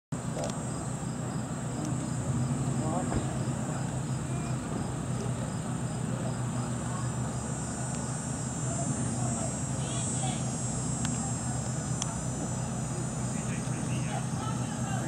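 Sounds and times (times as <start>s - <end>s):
high-pitched insect chorus: 0.2s - 15.0s
low steady hum: 0.2s - 15.0s.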